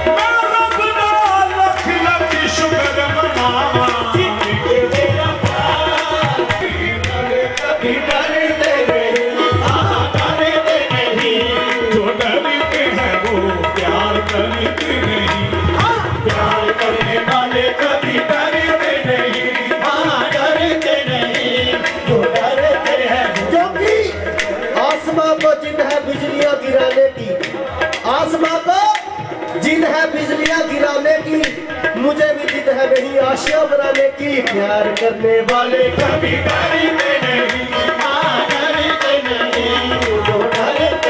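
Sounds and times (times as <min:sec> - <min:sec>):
fast hand drum beat: 0:00.0 - 0:41.0
harmonium melody: 0:00.0 - 0:41.0.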